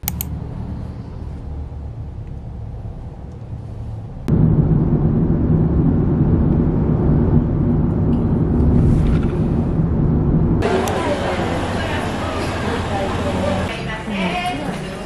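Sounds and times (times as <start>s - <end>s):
car road and engine rumble: 0.0s - 13.8s.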